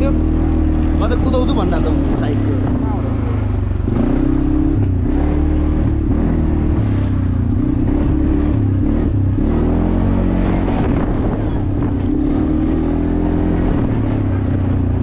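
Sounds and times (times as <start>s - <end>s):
atv engine under throttle: 0.0s - 15.0s.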